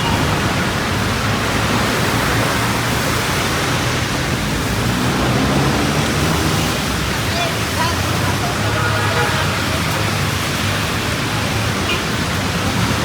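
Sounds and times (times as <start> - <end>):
rain: 0.0 - 13.0
traffic on wet road: 0.0 - 13.0.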